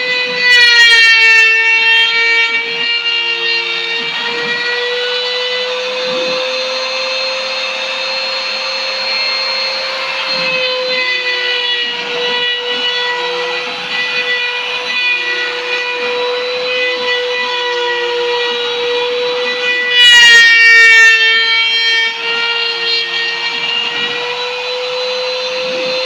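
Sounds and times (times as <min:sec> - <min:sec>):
rough cutting noise: 0:00.0 - 0:26.0
spindle high whine: 0:00.0 - 0:26.0.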